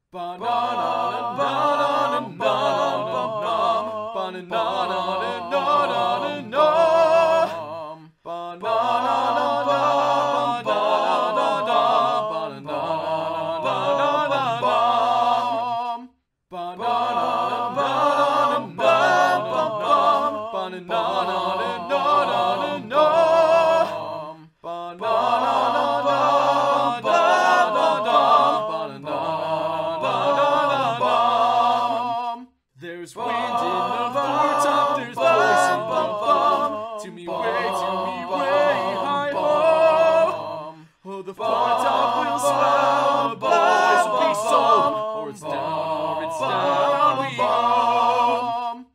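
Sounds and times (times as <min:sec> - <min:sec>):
a cappella vocal harmonies: 0:00.0 - 0:48.9.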